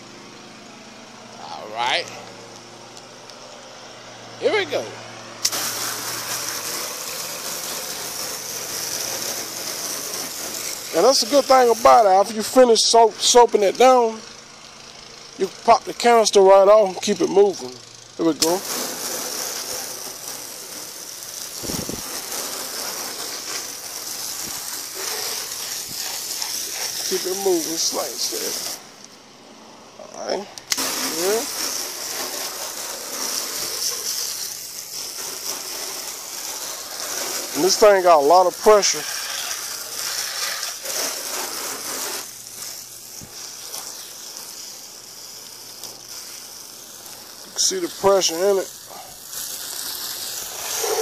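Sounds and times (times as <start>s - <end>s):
water jet splattering on metal: 5.4s - 14.1s, 14.8s - 29.1s, 30.6s - 51.0s.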